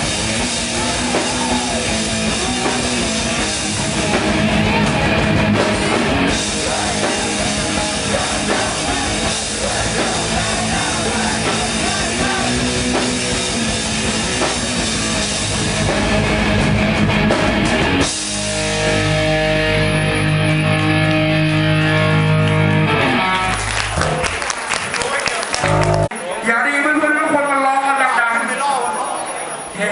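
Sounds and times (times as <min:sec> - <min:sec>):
drum kit: 0:00.0 - 0:24.3
distorted electric guitars: 0:00.0 - 0:24.4, 0:25.6 - 0:26.1.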